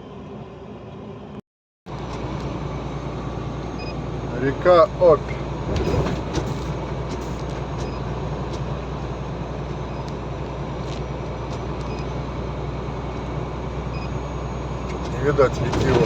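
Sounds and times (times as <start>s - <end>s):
truck engine drone: 0.0s - 16.0s
tyre and road noise: 0.1s - 16.0s.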